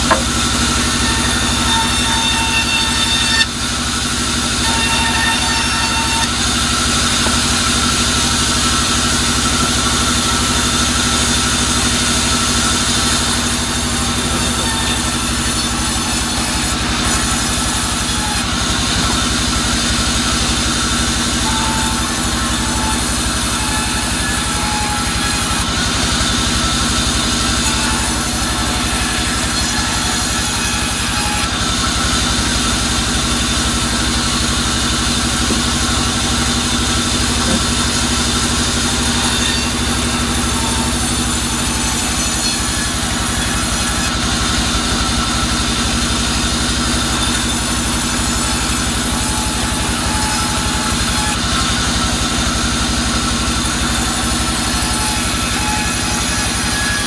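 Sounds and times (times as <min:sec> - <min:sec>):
bandsaw cutting wood: 0:00.0 - 0:57.0.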